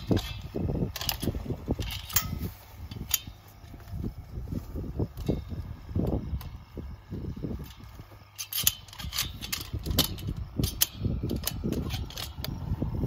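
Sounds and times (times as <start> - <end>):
leafy rustling of weeds: 0.0 - 13.0.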